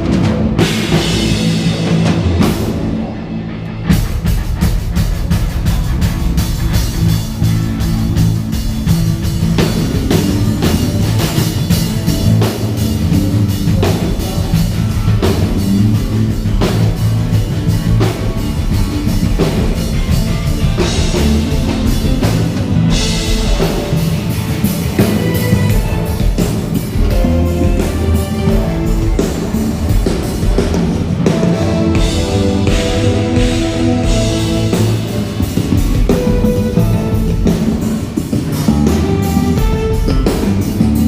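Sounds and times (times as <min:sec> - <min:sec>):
bass guitar: 0:00.0 - 0:41.0
drum kit beat: 0:00.0 - 0:41.0
electric guitar: 0:00.0 - 0:41.0.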